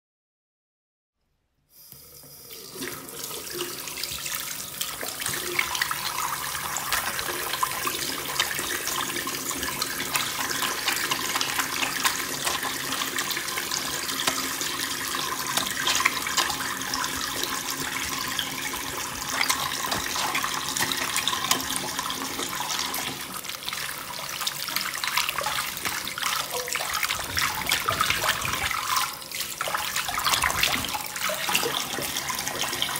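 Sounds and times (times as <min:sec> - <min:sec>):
tap water running into sink: 0:01.9 - 0:32.9
small water splashes: 0:02.8 - 0:32.9
hands rubbing with soap: 0:04.2 - 0:32.9.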